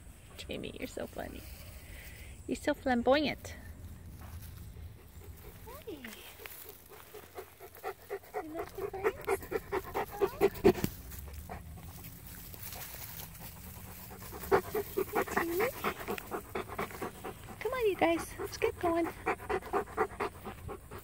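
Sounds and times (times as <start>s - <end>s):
dog panting: 4.2s - 21.0s.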